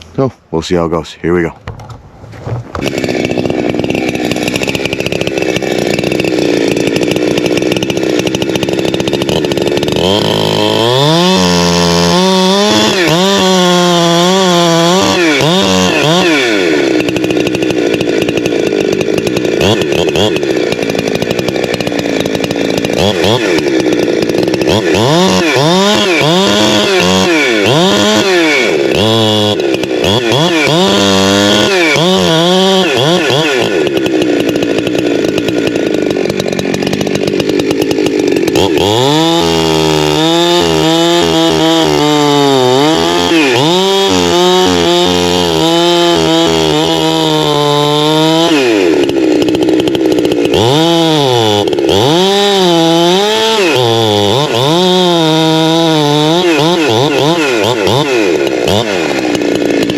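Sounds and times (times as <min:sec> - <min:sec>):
chainsaw cutting tree trunk: 0:01.6 - 0:59.9.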